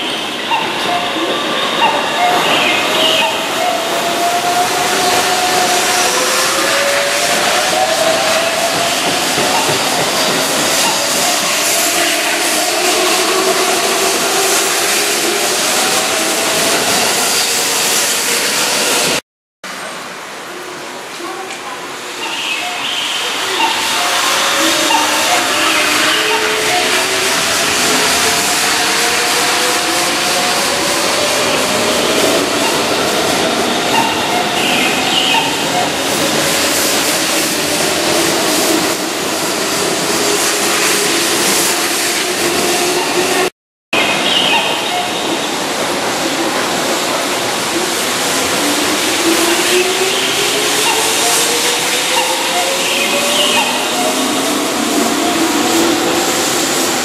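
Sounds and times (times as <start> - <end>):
train wheels rushing on rail: 0.0 - 57.0.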